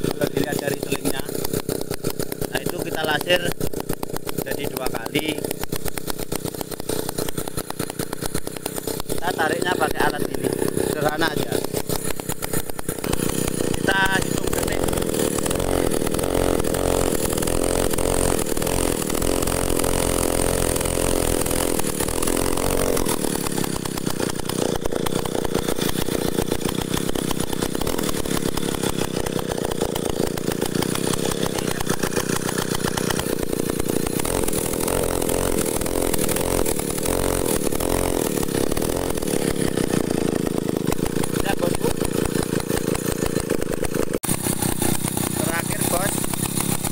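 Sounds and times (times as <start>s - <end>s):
small winch engine running: 0.0s - 46.9s.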